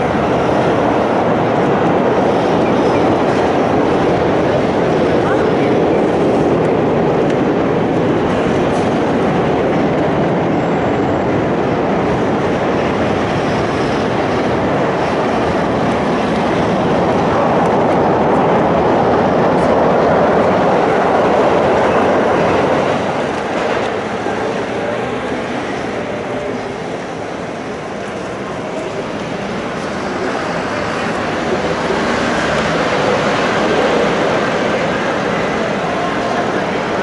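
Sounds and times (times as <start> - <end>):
trains running over steel bridge: 0.0 - 37.0.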